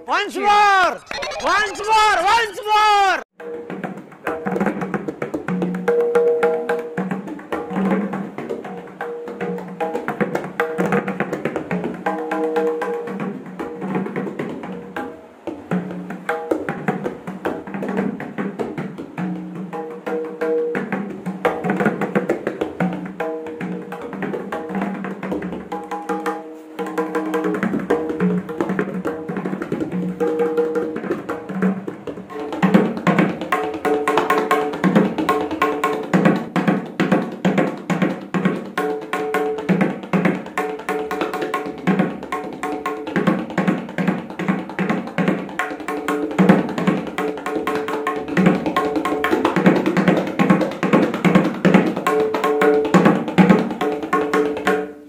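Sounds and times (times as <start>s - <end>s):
tabla drums played by hand: 1.1s - 2.4s, 3.4s - 55.0s.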